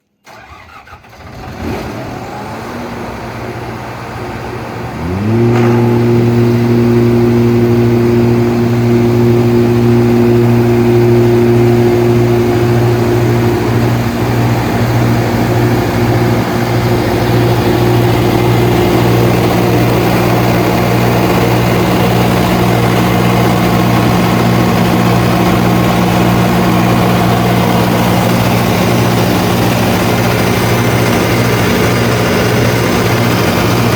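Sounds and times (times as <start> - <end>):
diesel generator starting and running: 0.0 - 33.9.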